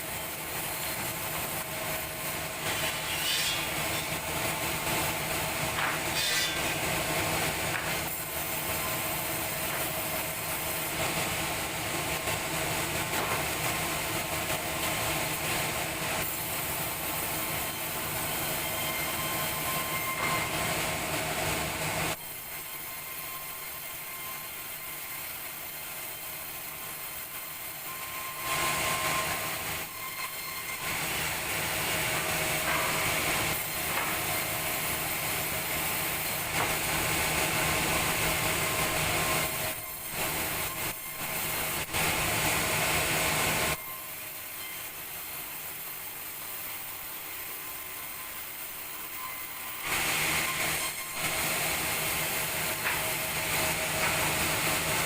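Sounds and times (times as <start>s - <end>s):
sawmill saw cutting timber: 0.0s - 55.0s.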